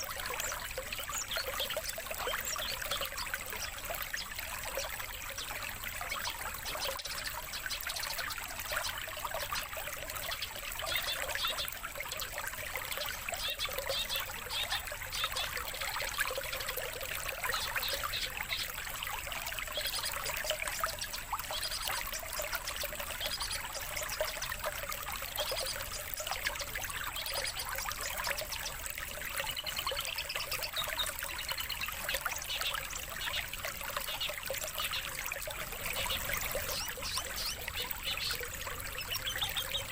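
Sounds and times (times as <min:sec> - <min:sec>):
songbird chirps and calls: 0:00.0 - 0:12.4, 0:13.0 - 0:39.9
stream trickling: 0:00.0 - 0:39.9.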